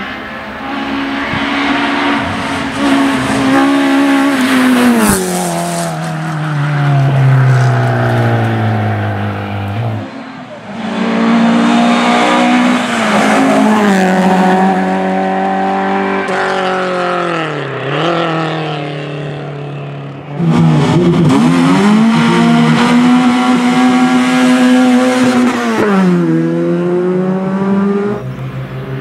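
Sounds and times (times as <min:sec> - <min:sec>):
rally car engine at high revs: 0:00.0 - 0:07.4, 0:08.1 - 0:29.0
rally car engine braking and revving: 0:00.0 - 0:29.0.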